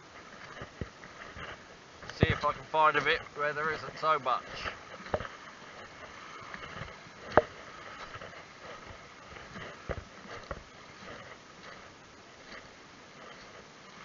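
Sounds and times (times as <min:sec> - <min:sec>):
footsteps on stones: 0:00.0 - 0:14.0.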